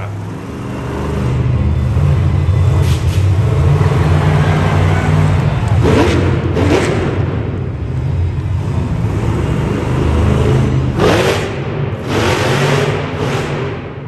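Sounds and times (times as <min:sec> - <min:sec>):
loud truck engine revving: 0:00.0 - 0:14.0.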